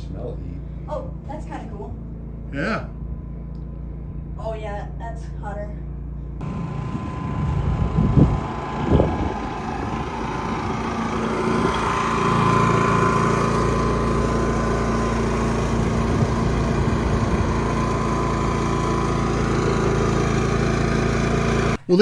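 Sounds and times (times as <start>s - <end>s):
generator engine running: 0.0s - 22.0s.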